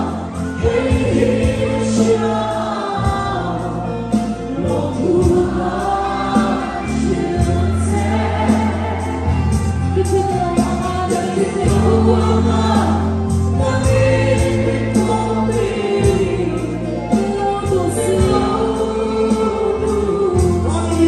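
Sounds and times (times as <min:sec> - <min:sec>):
band with bass and drums: 0:00.0 - 0:21.0
congregation singing: 0:00.0 - 0:21.0
woman singing into microphone: 0:00.0 - 0:21.0.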